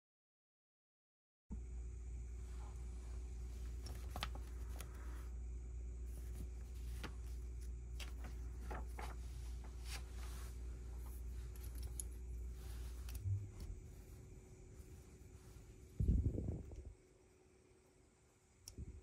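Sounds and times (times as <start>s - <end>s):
steady low hum: 1.5s - 19.0s.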